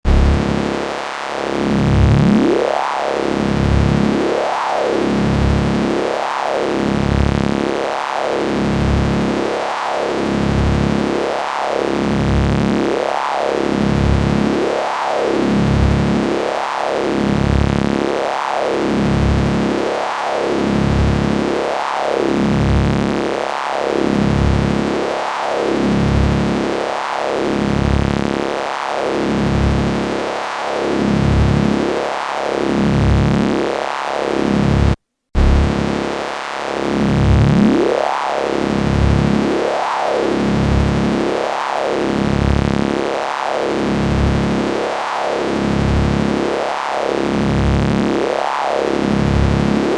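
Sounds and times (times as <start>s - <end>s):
electric buzzing hum sweeping up and down: 0.0s - 24.8s, 26.0s - 49.9s.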